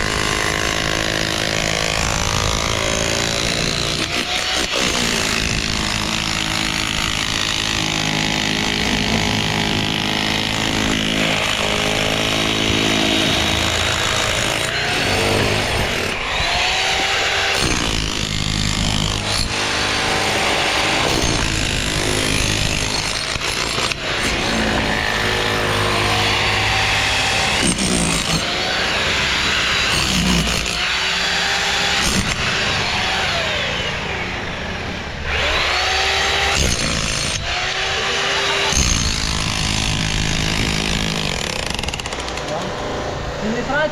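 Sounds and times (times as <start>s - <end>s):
power saw cutting: 0.0s - 43.9s.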